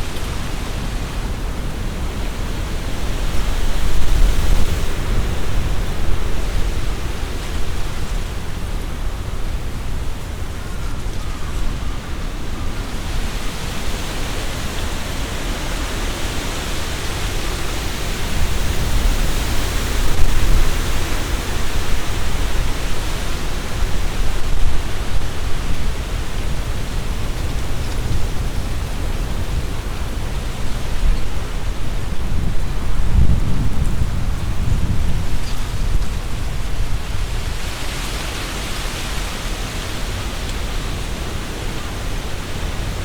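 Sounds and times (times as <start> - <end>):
leaves rustling: 0.0 - 43.0
wind buffeting microphone: 0.0 - 43.0
wind gusting through trees: 0.0 - 43.0.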